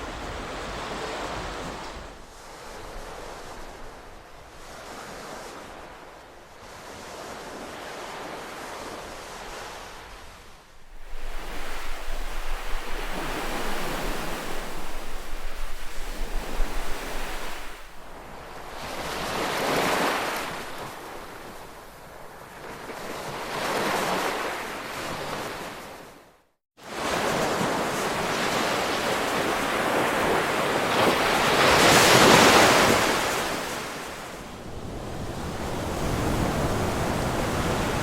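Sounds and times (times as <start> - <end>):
ocean waves breaking ashore: 0.0 - 26.1, 26.8 - 38.0.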